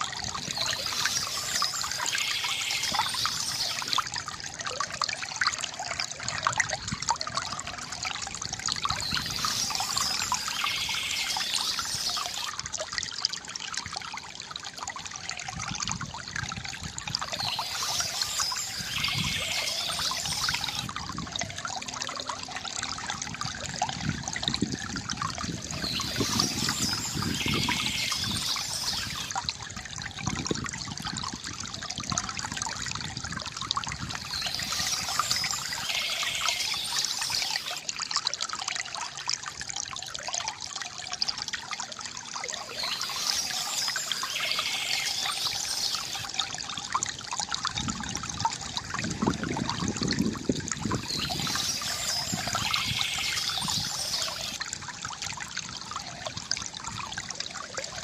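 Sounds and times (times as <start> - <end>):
water trickling from fountain spout: 0.0 - 58.0.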